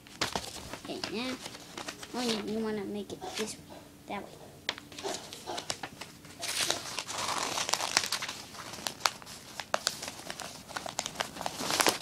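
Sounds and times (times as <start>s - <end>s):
paper crinkling: 0.0s - 2.7s, 4.7s - 12.0s.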